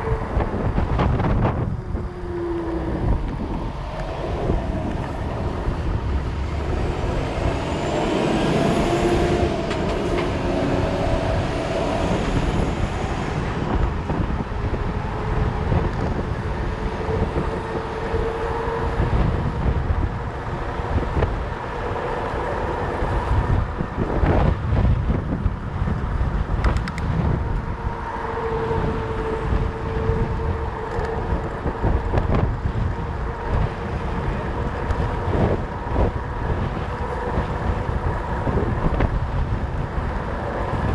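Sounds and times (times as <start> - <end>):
wind over microphone: 0.0 - 40.9.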